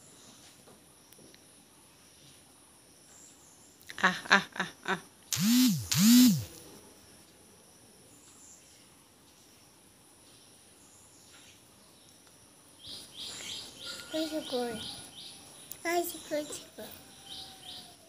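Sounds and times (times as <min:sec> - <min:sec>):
insects: 0:00.0 - 0:18.0.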